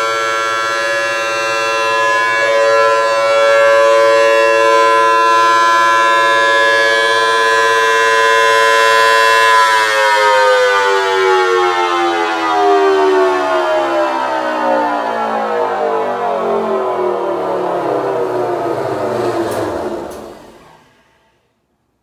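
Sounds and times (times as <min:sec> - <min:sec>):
rotating siren sounding a chord: 0:00.0 - 0:21.1.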